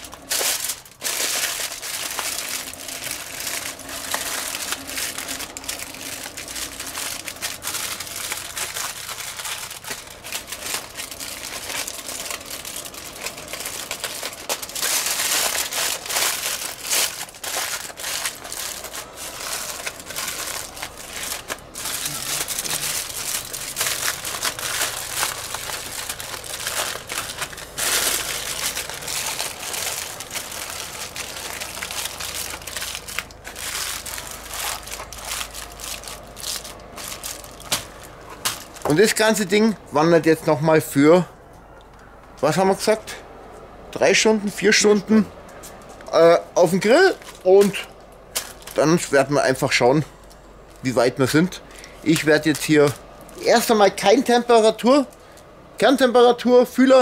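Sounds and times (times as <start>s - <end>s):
aluminium foil crinkling: 0.0s - 39.7s, 46.7s - 55.4s.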